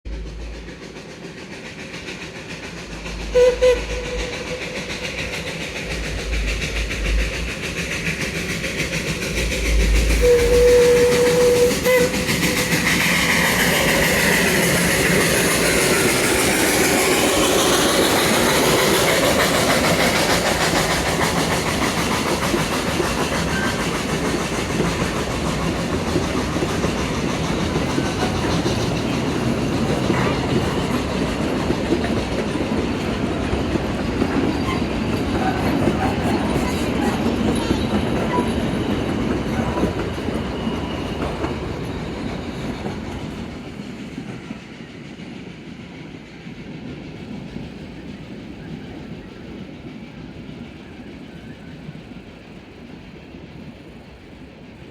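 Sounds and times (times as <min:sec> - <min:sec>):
steam train chugging: 0:00.1 - 0:54.9
wheels clacking on rails: 0:00.1 - 0:54.9.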